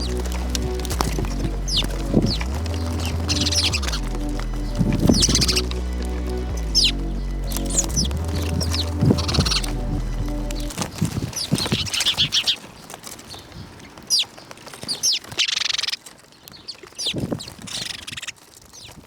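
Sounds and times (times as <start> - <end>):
rapid rustling: 0.0 - 16.5
small birds chirping: 0.0 - 19.0.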